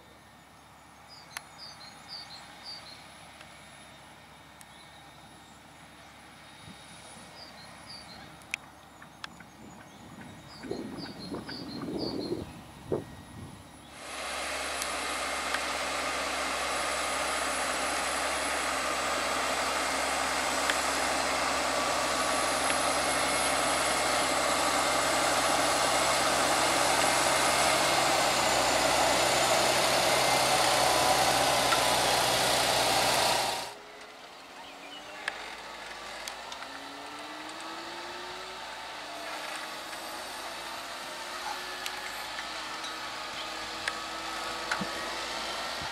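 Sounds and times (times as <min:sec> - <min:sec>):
distant engine: 0:00.0 - 0:45.9
tractor diesel engine running: 0:00.0 - 0:45.9.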